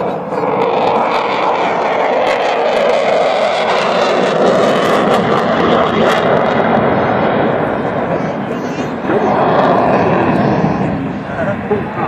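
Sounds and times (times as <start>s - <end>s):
jet engines roaring in flight: 0.0s - 12.0s.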